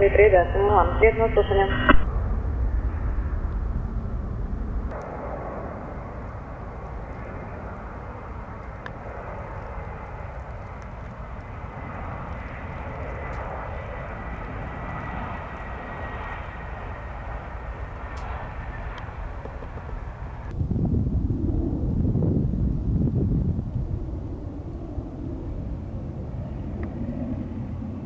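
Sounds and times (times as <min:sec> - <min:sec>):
airliner engine rumble: 0:00.0 - 0:28.0.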